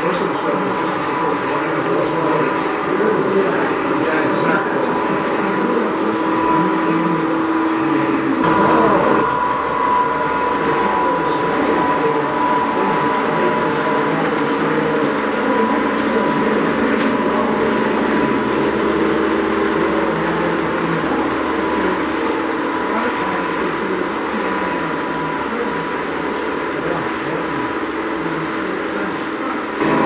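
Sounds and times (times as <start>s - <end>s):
background chatter: 0.0s - 30.0s
model train running hum: 0.0s - 30.0s.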